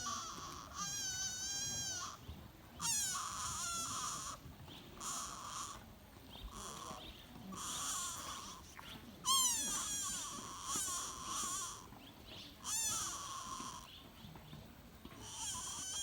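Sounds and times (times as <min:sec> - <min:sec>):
deer fawn bleating: 0:00.0 - 0:05.8, 0:06.5 - 0:12.0, 0:12.6 - 0:13.9, 0:15.2 - 0:16.0.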